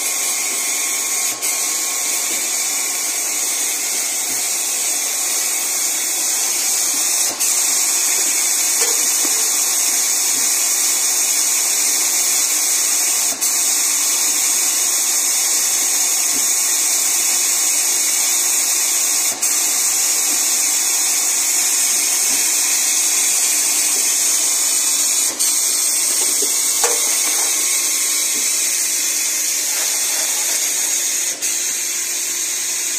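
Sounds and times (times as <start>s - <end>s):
packing machinery hissing: 0.0s - 32.9s.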